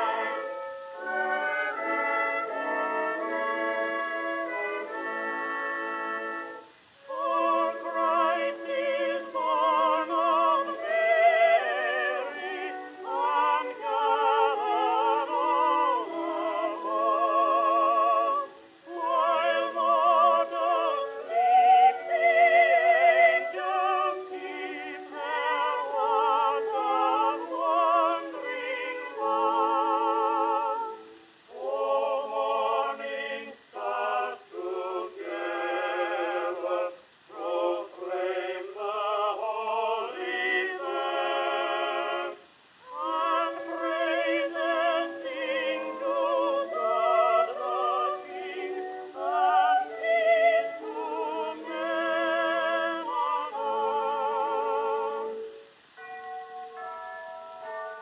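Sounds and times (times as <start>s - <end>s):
operatic singing: 0.0s - 57.0s.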